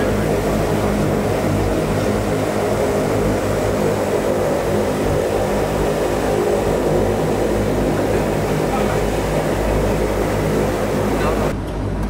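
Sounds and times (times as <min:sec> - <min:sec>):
propeller hum: 0:00.0 - 0:12.0
turboprop engines droning: 0:00.0 - 0:12.0.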